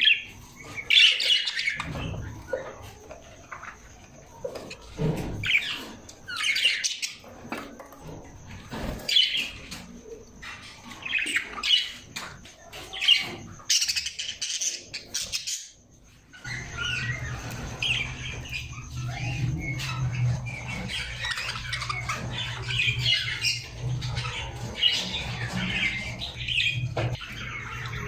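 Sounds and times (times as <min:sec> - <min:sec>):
parrots chirping and squawking: 0:00.0 - 0:07.6, 0:08.3 - 0:28.0.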